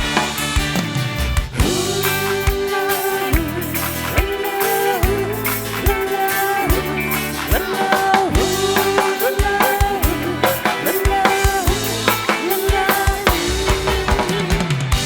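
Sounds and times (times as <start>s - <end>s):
drum kit beat: 0.0s - 15.0s
live band playing: 0.0s - 15.0s.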